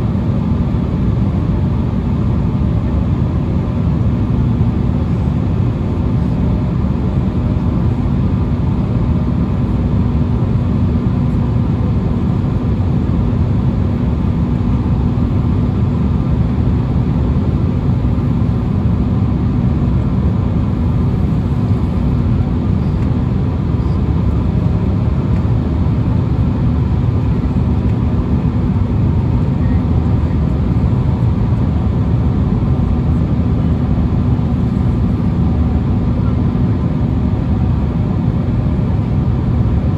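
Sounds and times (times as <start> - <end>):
jet engines humming: 0.0 - 39.9
rushing air in aircraft cabin: 0.0 - 39.9.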